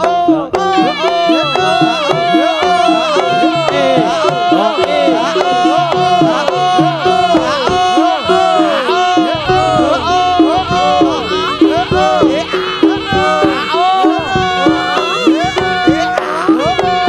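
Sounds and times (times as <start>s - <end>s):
struck gong-chimes: 0.0s - 16.7s
gamelan music: 0.0s - 17.0s
hand drum drumming: 0.0s - 17.0s
wavering ornamented melody: 0.0s - 17.0s.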